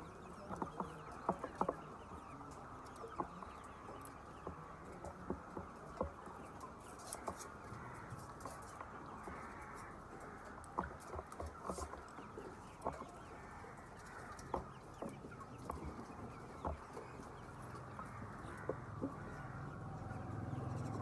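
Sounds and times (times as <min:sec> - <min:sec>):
background hubbub: 0:00.0 - 0:21.0
chickens clucking: 0:00.0 - 0:21.0.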